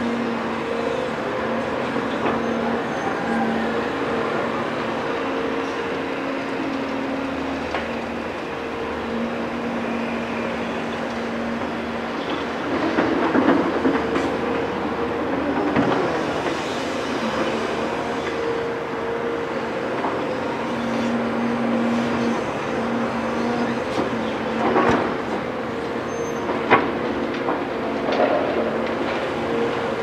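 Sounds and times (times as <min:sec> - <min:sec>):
excavator engine and hydraulics: 0:00.0 - 0:30.0.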